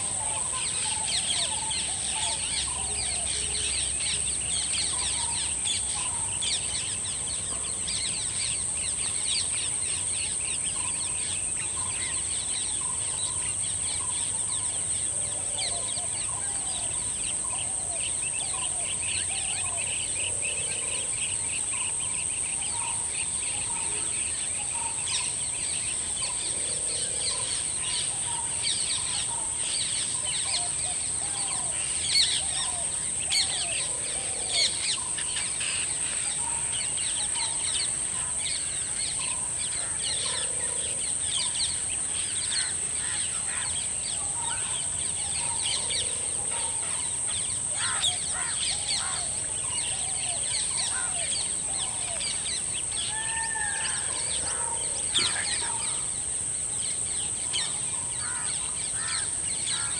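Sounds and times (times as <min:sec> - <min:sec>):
high-pitched insect drone: 0:00.0 - 0:59.9
small birds chirping: 0:00.0 - 0:59.9.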